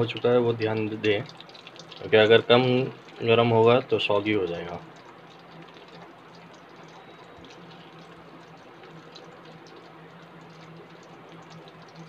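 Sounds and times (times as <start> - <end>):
noodles deep-frying in oil: 0.0 - 12.0.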